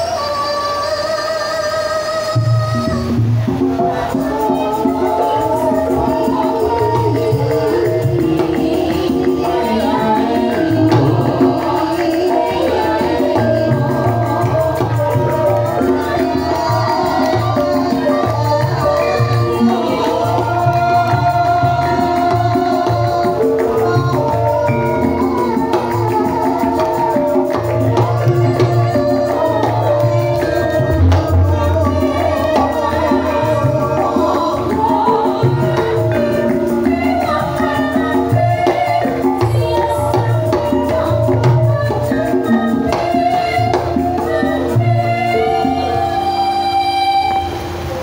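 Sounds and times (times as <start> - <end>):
drum strokes: 2.4 - 45.9.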